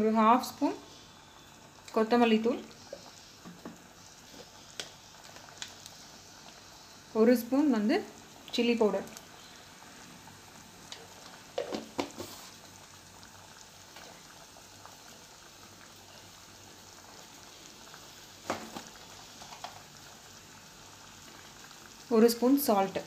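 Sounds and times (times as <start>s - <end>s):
gravy simmering and bubbling: 0.8s - 7.1s, 8.0s - 22.7s.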